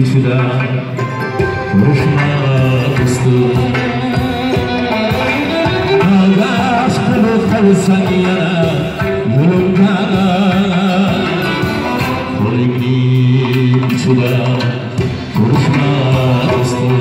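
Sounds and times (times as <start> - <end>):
held melody notes: 0.0 - 13.9
man singing: 0.0 - 17.0.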